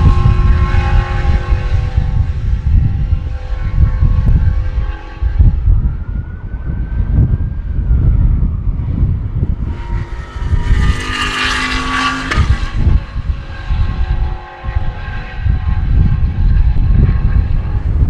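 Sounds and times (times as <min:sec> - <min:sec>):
race car engine revving: 0:00.0 - 0:18.0
wind buffeting microphone: 0:00.0 - 0:18.0.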